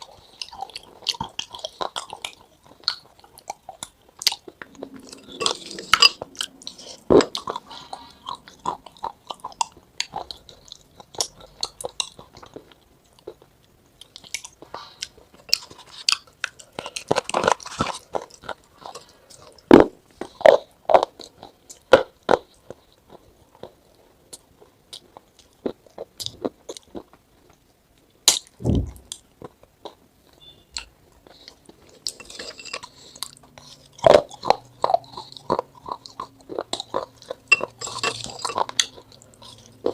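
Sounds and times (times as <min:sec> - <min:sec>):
person crunching and chewing: 0:00.0 - 0:39.9.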